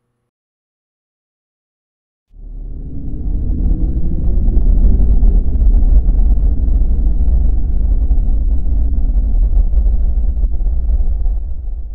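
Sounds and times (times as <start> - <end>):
deep cinematic rumble: 2.3 - 11.9.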